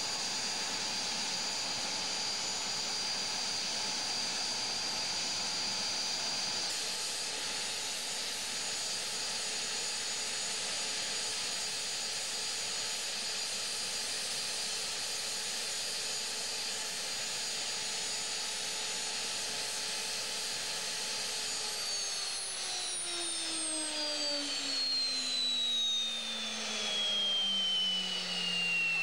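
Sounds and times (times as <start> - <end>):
helicopter turbine engine whining: 0.0 - 29.0.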